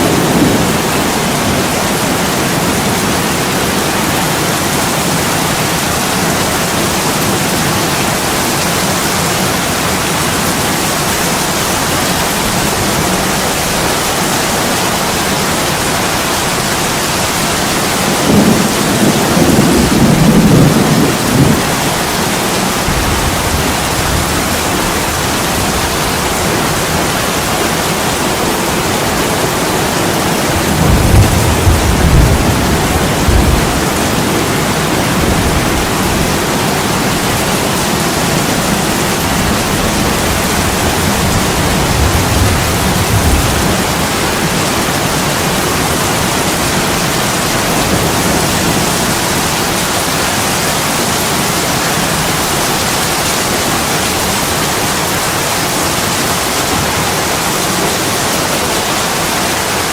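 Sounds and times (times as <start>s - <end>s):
heavy rain on a window: 0.0s - 59.9s.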